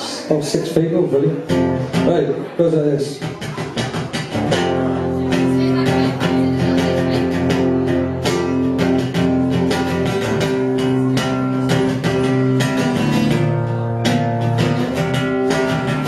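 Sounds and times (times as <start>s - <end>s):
guitar chords strummed: 1.3s - 2.5s, 3.1s - 16.0s.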